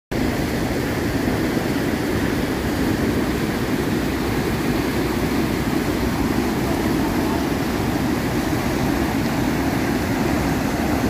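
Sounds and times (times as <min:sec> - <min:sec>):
river water rushing over rocks: 0:00.1 - 0:11.0.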